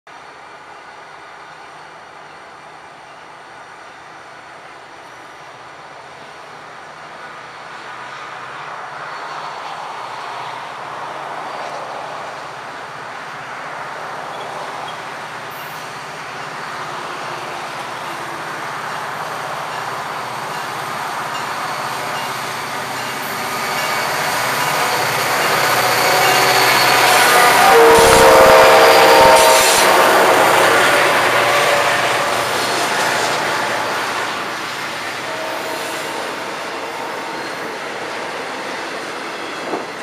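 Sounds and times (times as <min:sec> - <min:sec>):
diesel locomotive engine drone: 0:00.1 - 0:40.0
rail noise: 0:00.1 - 0:40.0.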